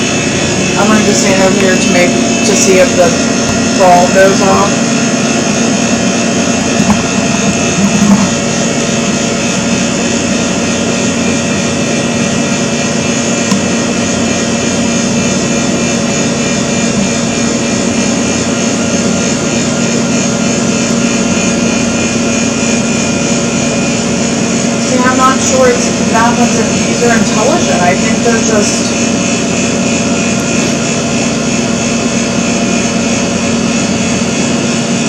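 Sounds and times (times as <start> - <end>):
steady mechanical drone and hiss: 0.0 - 35.0.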